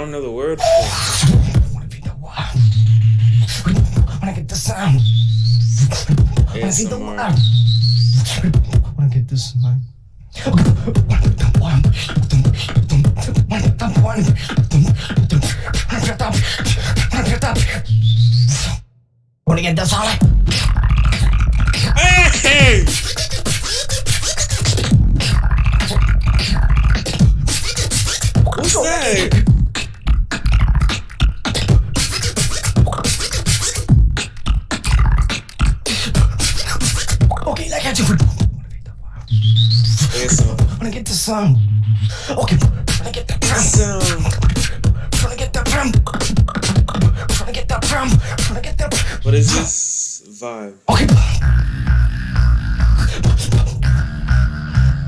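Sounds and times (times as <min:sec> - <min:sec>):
beatboxing: 0:00.6 - 0:09.0, 0:10.4 - 0:18.8, 0:19.8 - 0:55.0.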